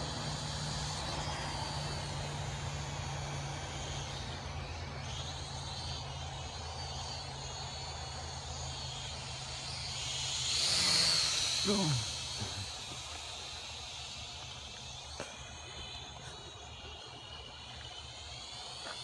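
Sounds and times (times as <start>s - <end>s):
quadcopter propellers whining: 0.0s - 19.0s
steady low hum: 0.0s - 19.0s.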